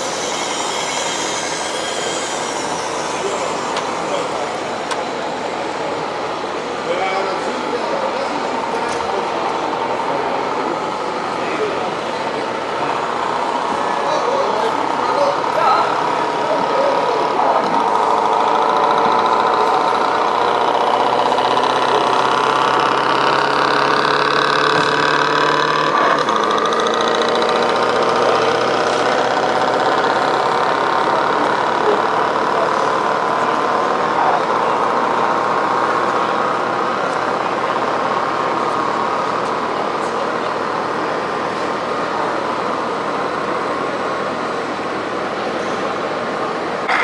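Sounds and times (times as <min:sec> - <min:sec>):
simulated truck engine drone: 0:00.0 - 0:47.0.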